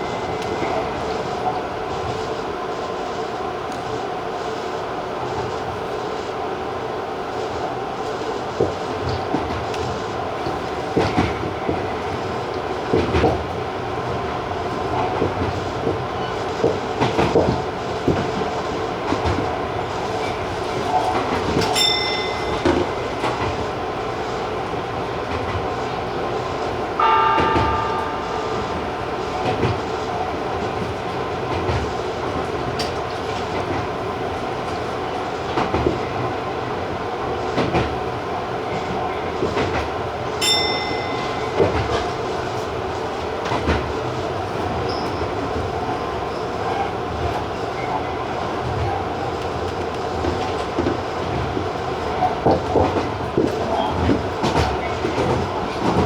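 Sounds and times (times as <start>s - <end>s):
electric train running: 0.0s - 56.0s.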